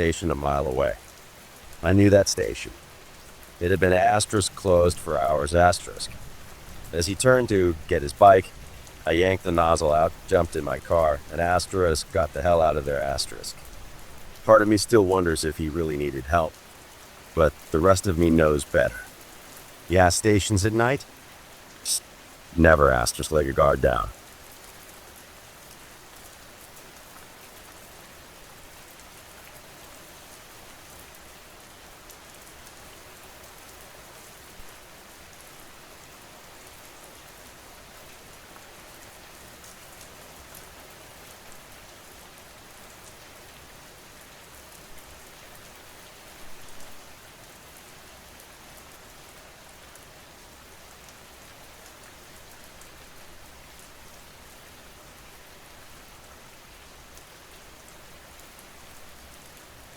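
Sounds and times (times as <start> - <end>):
rain spatters: 0.0 - 59.9
steady rain falling: 0.0 - 59.9.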